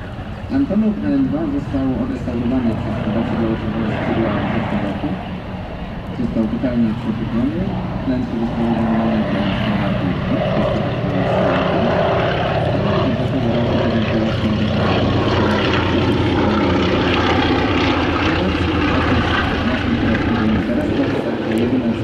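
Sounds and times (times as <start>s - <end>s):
propeller aircraft engines: 0.0s - 22.0s.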